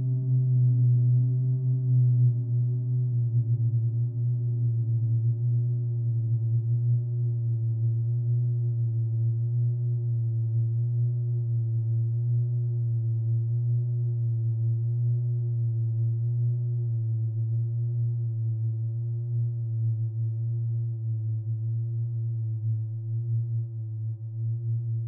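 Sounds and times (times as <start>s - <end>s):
low wavering hum: 0.0s - 25.0s.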